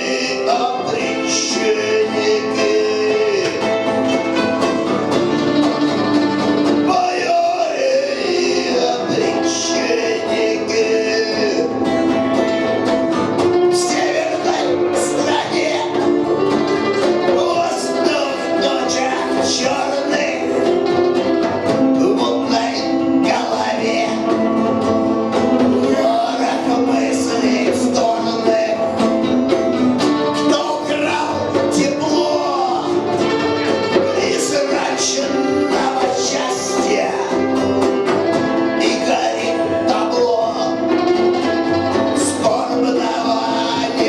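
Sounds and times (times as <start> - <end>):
live band guitar music: 0.0 - 44.0.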